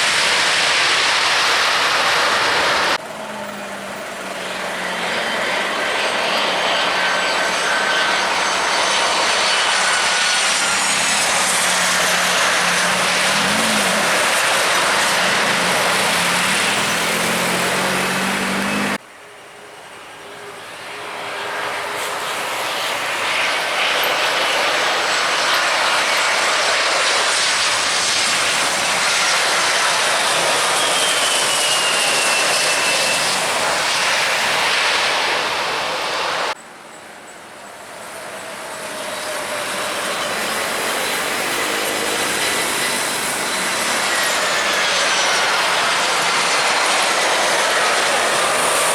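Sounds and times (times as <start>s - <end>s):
airliner engines whining: 0.0s - 48.9s.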